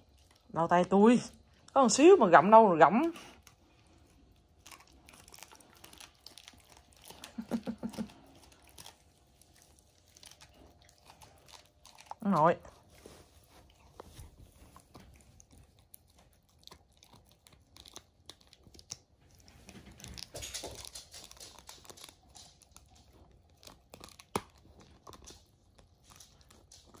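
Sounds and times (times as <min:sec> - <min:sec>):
dog gnawing a chew bone: 0:00.0 - 0:01.6, 0:03.1 - 0:27.0
chew cracking: 0:03.2 - 0:27.0.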